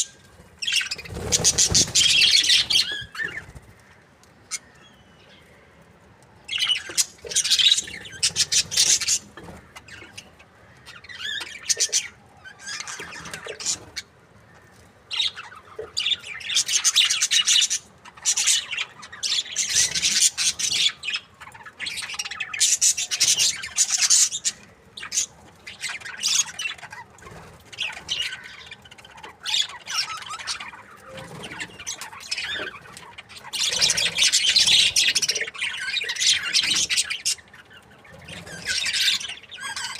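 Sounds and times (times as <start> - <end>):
budgerigars chirping and chattering: 0.0 - 3.8, 6.5 - 14.1, 15.1 - 39.9.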